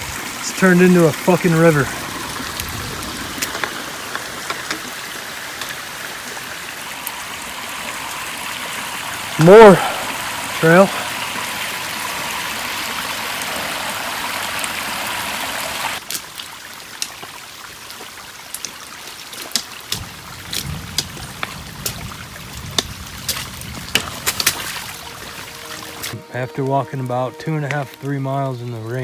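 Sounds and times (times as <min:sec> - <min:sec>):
water rushing down rocky trail: 0:00.0 - 0:29.0.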